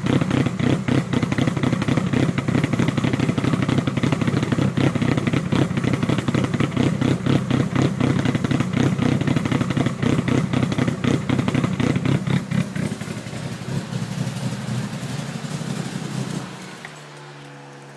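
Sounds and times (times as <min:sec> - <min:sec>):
car engine idling roughly: 0:00.0 - 0:17.2.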